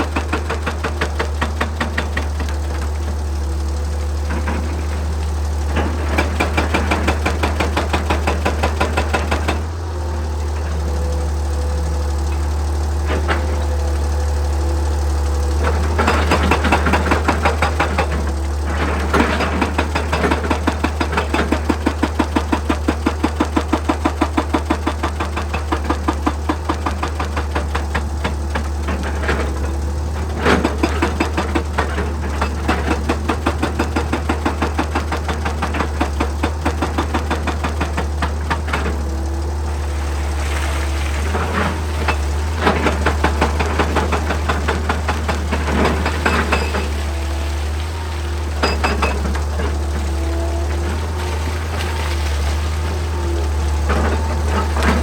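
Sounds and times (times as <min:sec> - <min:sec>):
hydraulic breaker hammering rock: 0:00.0 - 0:14.6, 0:15.4 - 0:55.0
excavator engine running: 0:00.0 - 0:55.0.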